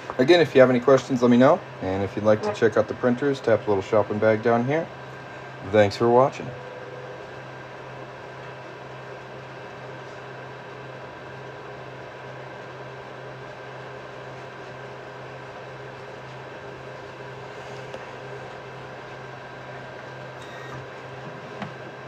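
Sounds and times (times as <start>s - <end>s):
fans and motors whirring: 0.0s - 22.0s.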